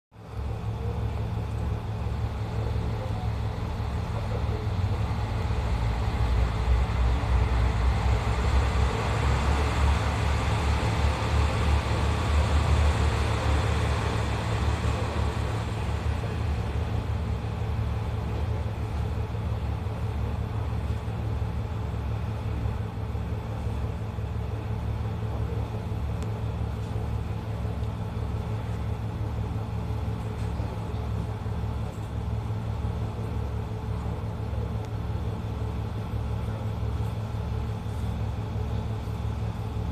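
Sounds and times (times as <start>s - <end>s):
diesel railcar engine idling: 0.1s - 39.9s
diesel train passing: 0.2s - 39.9s.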